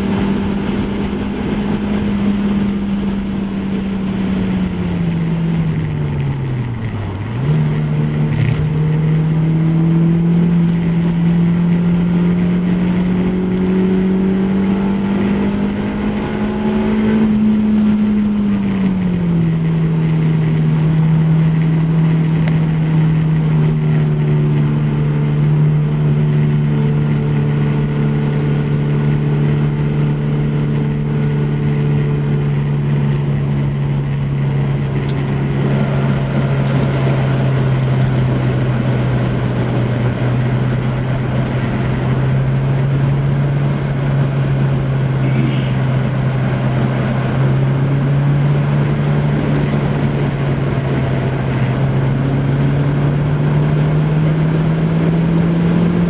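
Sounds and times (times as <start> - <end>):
car engine cruising drone: 0.0 - 56.0
road noise: 0.0 - 56.0
wind noise: 0.0 - 56.0.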